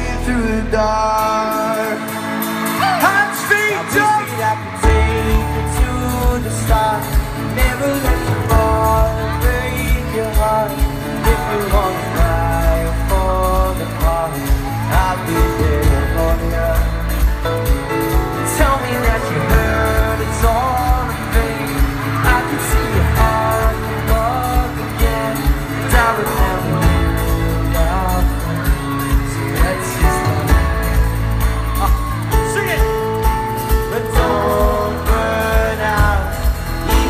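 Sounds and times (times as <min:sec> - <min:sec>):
male voices singing: 0:00.0 - 0:32.0, 0:33.8 - 0:37.0
live pop band: 0:00.0 - 0:37.0
steady drum beat: 0:02.8 - 0:37.0.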